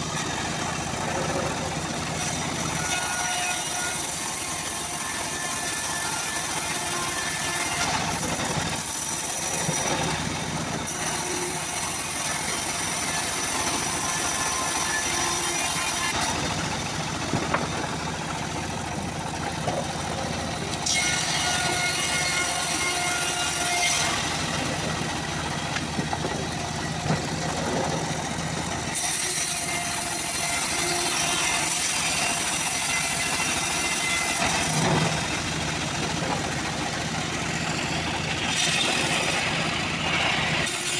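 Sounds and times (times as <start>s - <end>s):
bandsaw mill drone: 0.0s - 40.9s.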